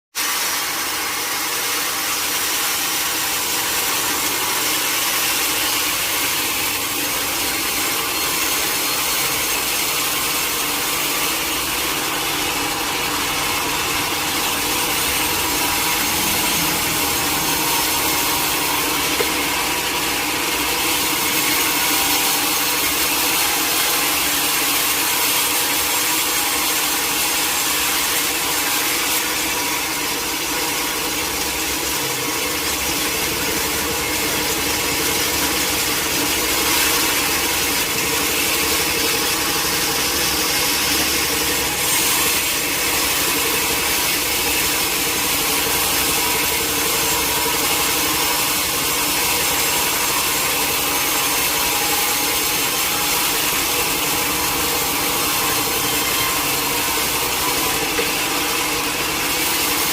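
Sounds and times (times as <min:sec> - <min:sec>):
saw cutting through log: 0:00.1 - 0:59.9.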